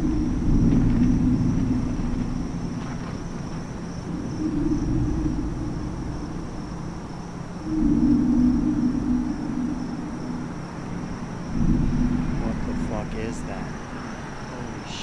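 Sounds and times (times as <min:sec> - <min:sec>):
high-pitched whine: 0:00.0 - 0:15.0
low droning rumble: 0:00.0 - 0:15.0.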